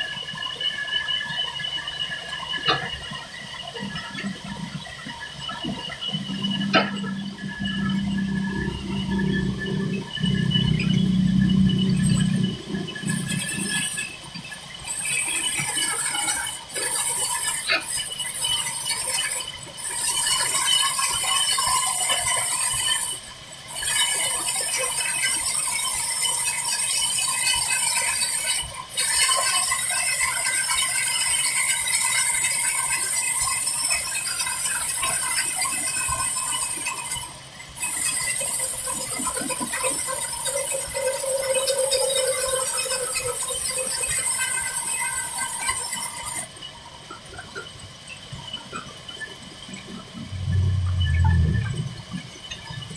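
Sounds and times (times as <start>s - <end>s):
machine rattling clatter: 0.1s - 52.9s.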